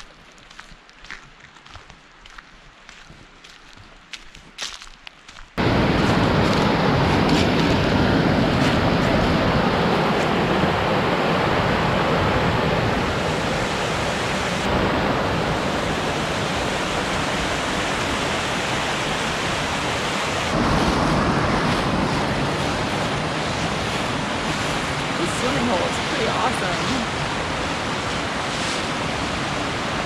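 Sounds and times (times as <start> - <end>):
waterfall and creek rushing: 5.6 - 30.0.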